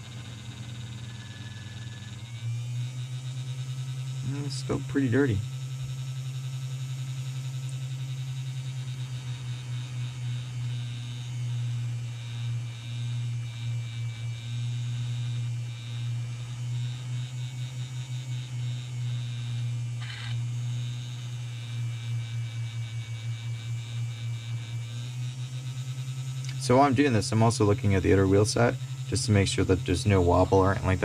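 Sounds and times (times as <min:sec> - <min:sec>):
model train motor humming: 0:00.0 - 0:31.0.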